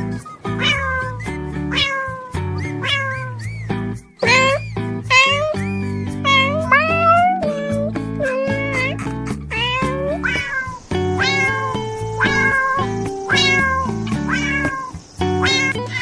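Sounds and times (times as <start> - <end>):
background music with sustained notes: 0.0 - 16.0
cat meowing: 0.5 - 3.4, 4.2 - 16.0.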